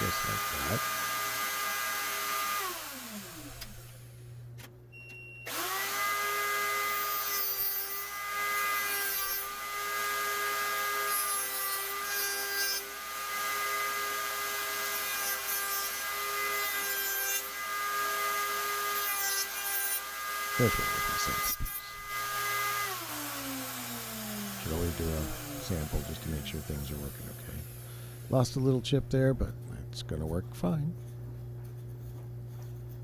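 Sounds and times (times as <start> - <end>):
router bit cutting wood: 0.0 - 4.2, 5.5 - 28.8
router motor whine: 0.0 - 4.3, 5.5 - 28.4.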